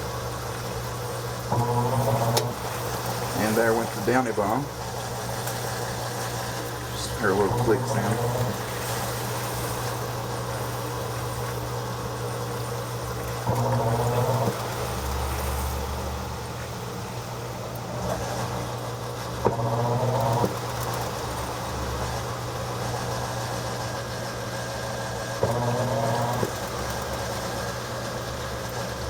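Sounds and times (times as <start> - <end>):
washing machine motor hum: 0.0 - 29.0.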